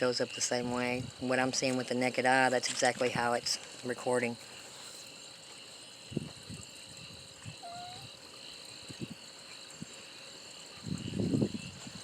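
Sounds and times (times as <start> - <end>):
crickets and night insects: 0.0 - 12.0.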